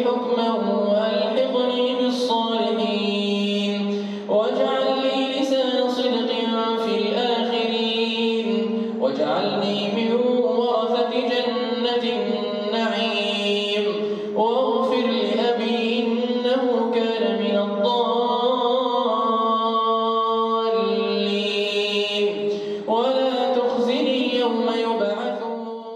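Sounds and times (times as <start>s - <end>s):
man chanting: 0.0s - 25.9s.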